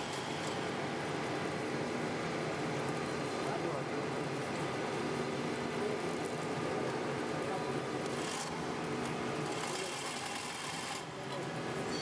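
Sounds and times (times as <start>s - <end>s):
production line machine whirring hum: 0.0s - 12.0s.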